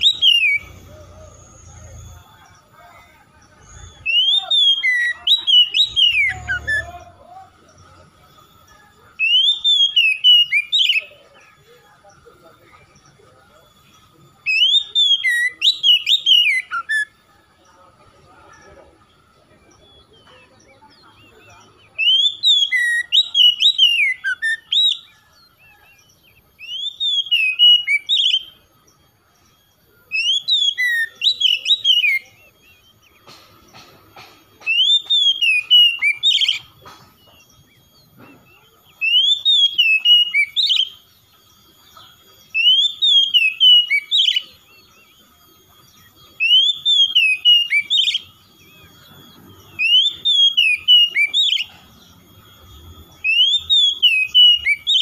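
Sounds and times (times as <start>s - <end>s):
bird whistling song: 0.0s - 12.1s, 12.8s - 17.4s, 19.1s - 55.0s.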